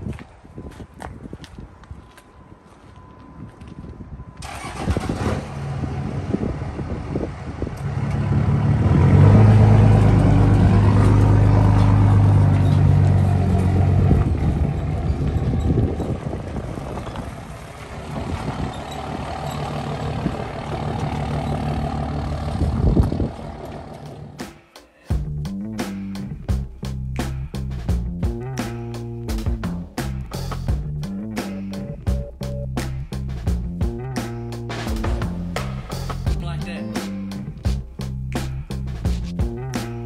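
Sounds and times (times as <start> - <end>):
truck engine running: 4.4 - 40.0.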